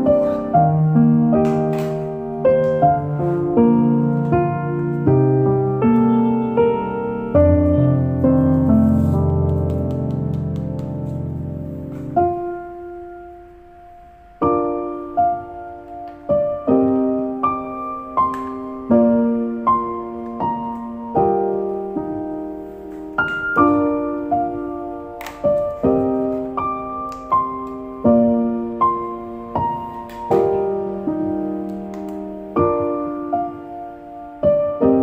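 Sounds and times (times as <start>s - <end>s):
gentle piano music: 0.0s - 35.0s.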